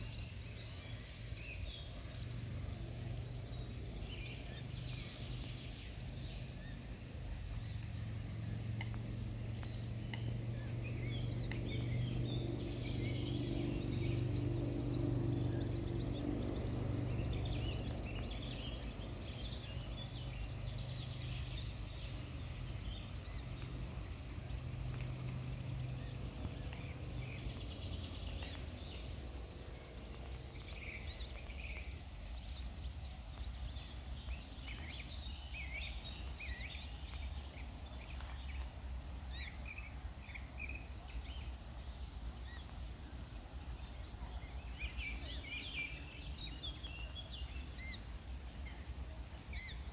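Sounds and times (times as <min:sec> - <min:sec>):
low background rumble: 0:00.0 - 0:49.9
low steady hum: 0:00.0 - 0:49.9
songbirds chirping: 0:00.0 - 0:49.9.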